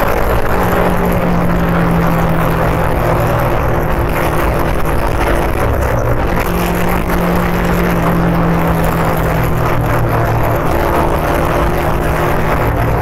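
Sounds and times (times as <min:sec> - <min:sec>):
motorcycle engine cruising: 0:00.0 - 0:13.0
road noise: 0:00.0 - 0:13.0
wind noise: 0:00.0 - 0:13.0.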